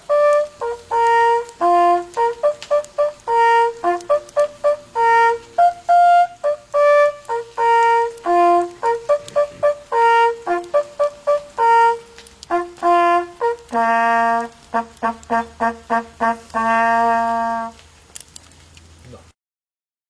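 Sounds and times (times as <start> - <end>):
hunting horn playing: 0.0 - 17.8.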